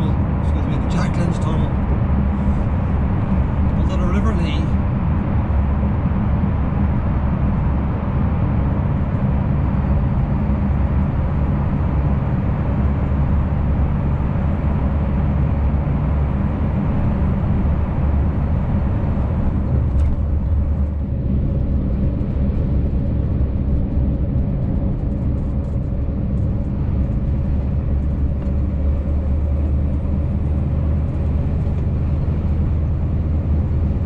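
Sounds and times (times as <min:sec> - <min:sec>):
lorry engine drone: 0:00.0 - 0:34.0
tyre and road noise: 0:00.0 - 0:34.0.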